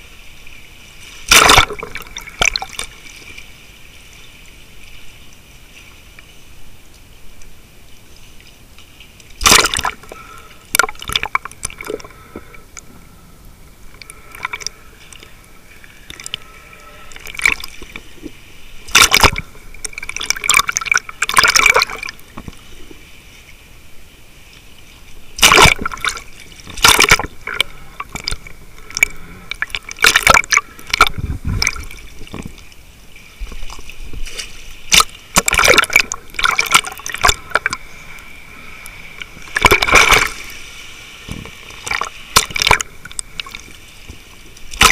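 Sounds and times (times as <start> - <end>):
water sloshing and bubbling: 0.0 - 44.9.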